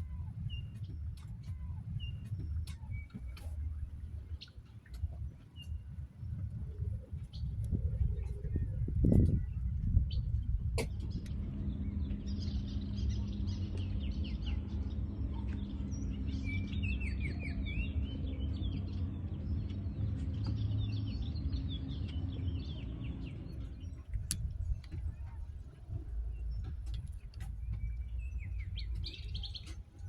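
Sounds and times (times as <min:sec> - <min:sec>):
flock of small birds chirping: 0:00.0 - 0:30.0
low hum and rumble: 0:00.0 - 0:30.0.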